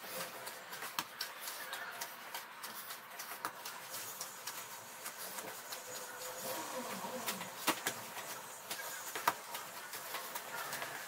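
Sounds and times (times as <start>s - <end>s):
dough being kneaded: 0.0s - 11.0s.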